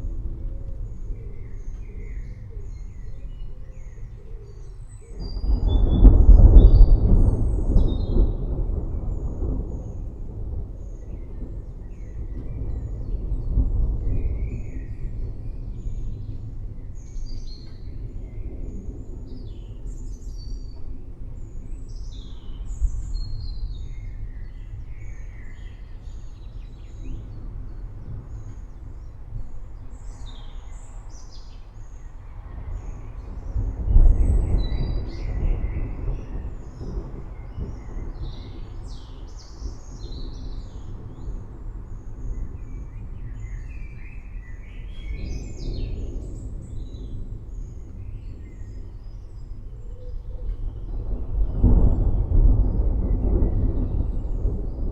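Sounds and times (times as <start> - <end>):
distant thunder rumble: 0.0 - 54.9
songbirds chirping: 0.0 - 54.9
roll of thunder: 4.6 - 54.9.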